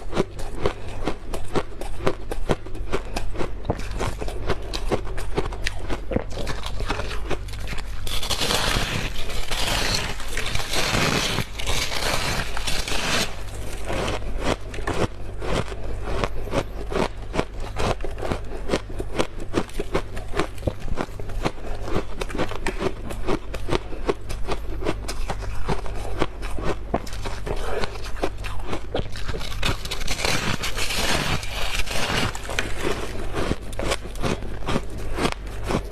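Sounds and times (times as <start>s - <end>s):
dense continuous scraping: 0.0s - 35.9s
frost being crunched and chewed: 0.0s - 35.9s.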